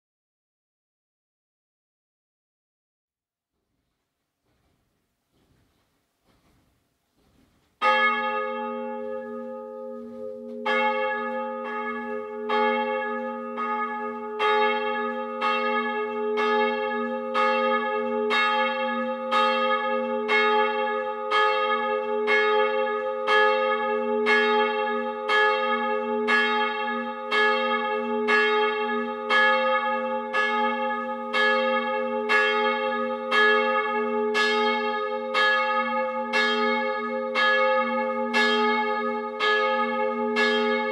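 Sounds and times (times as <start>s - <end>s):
church bell ringing: 7.8s - 40.9s.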